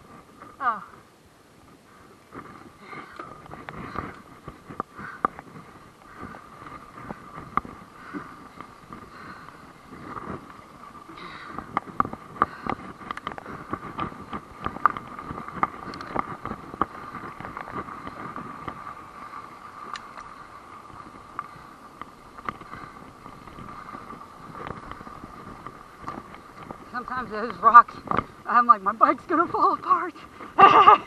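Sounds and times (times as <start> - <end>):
mountain bike rattling on rocky trail: 2.0 - 31.0.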